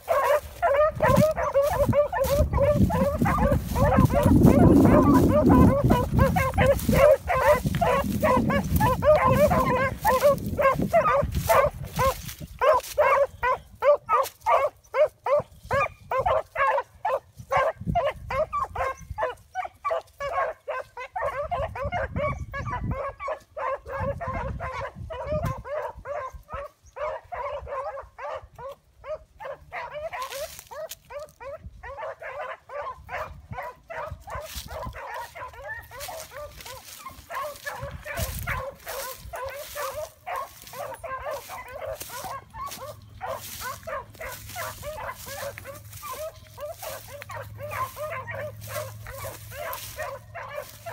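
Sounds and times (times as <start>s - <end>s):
hounds baying: 0.0s - 50.9s.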